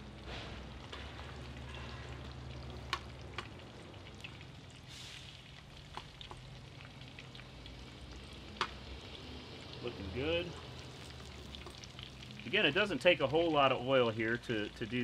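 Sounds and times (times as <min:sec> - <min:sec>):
fries sizzling in hot oil: 0:00.0 - 0:15.0
low steady hum: 0:00.0 - 0:15.0.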